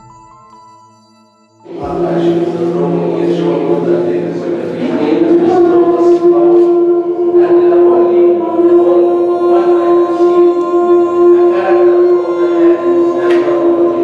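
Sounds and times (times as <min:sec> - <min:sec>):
chant-like drone music: 0:01.6 - 0:14.0.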